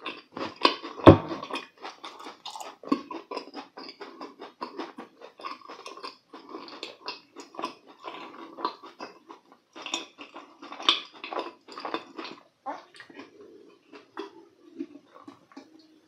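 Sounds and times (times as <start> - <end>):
chewing with wet smacks: 0.0 - 16.0.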